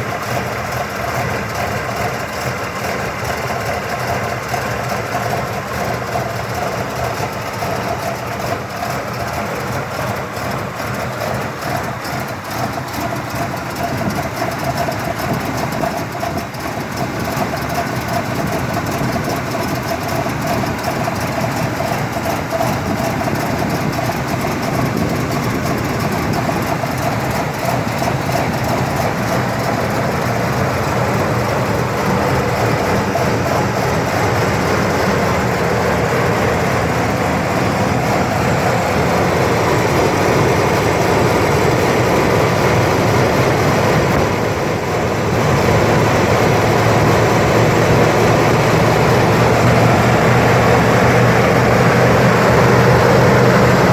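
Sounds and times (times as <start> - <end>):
rough car engine idling: 0.0 - 53.9.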